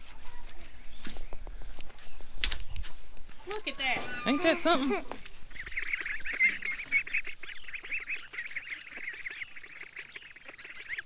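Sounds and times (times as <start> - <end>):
goslings and ducklings peeping: 0.2 - 11.0.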